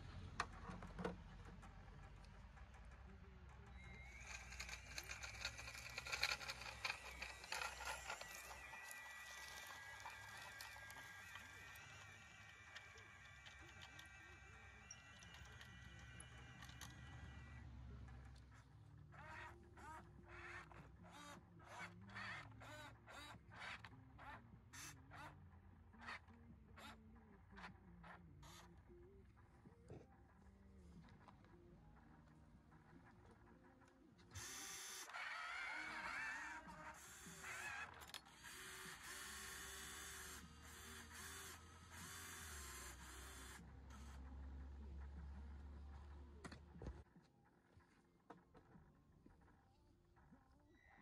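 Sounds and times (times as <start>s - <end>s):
small gear motors whirring: 0.0s - 29.5s, 31.0s - 47.1s.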